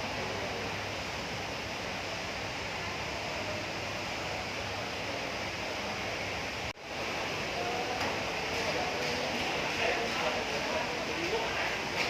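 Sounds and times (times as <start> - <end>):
shopping area background hum: 0.0 - 12.0.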